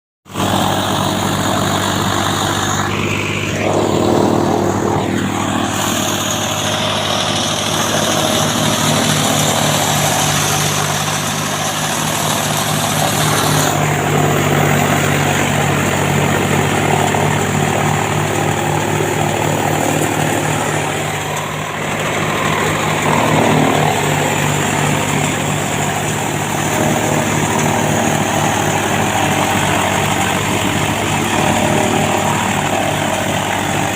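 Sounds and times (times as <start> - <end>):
chaff cutter machine hum: 0.3 - 33.9.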